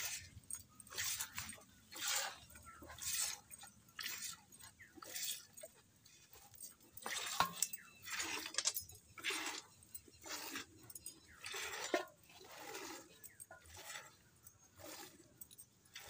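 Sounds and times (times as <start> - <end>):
milk squirting into steel bucket: 0.0 - 16.0.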